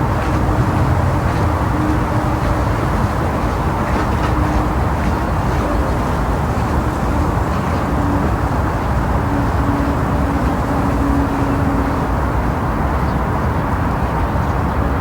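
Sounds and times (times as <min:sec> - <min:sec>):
low rumble of city noise: 0:00.0 - 0:15.0.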